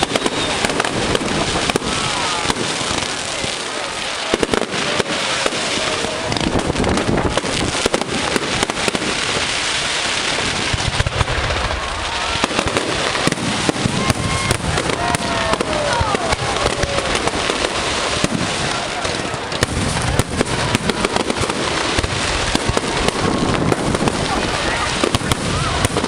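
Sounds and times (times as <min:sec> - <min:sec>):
firework bangs and crackles: 0:00.0 - 0:26.0
whistling fireworks: 0:00.0 - 0:26.0.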